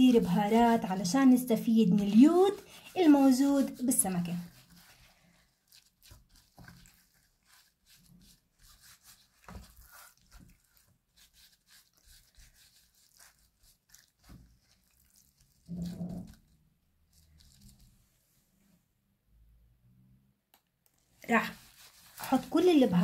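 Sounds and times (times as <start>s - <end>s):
gloves rubbing and crinkling: 0.0s - 18.4s, 20.9s - 23.0s.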